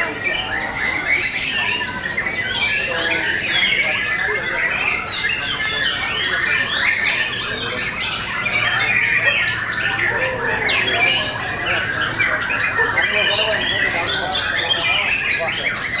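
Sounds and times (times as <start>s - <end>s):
birds singing in chorus: 0.0s - 16.0s.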